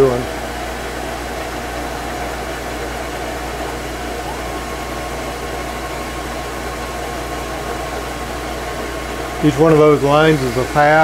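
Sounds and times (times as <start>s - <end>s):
lathe spinning: 0.0s - 11.0s
vacuum cleaner running: 0.0s - 11.0s.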